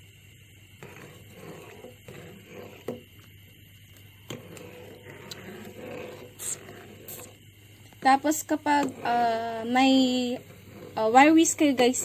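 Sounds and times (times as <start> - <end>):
low steady hum: 0.0 - 12.0
ladle stirring in metal pot: 0.8 - 12.0.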